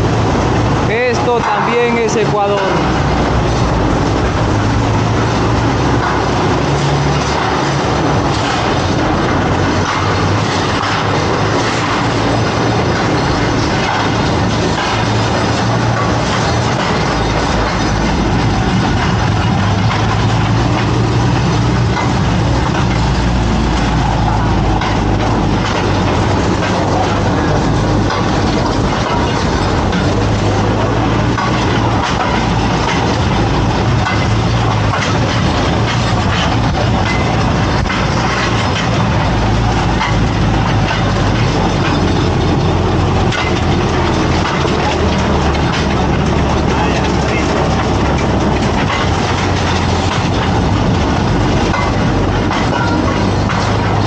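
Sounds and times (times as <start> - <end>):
continuous rushing noise: 0.0 - 54.0
vehicle engine running: 0.0 - 54.0
wheels clattering over rails: 0.0 - 54.0.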